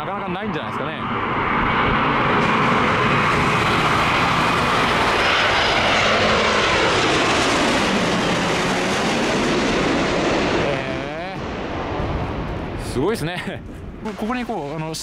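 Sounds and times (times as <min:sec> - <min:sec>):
falling jet whine: 0:00.0 - 0:15.0
jet airliner roar: 0:00.0 - 0:15.0.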